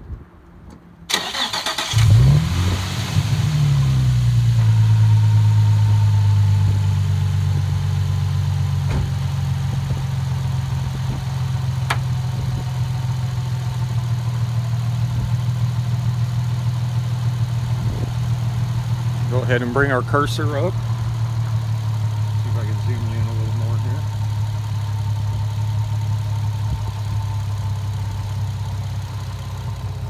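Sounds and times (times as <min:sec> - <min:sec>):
car engine revving and idling: 0:01.2 - 0:30.0.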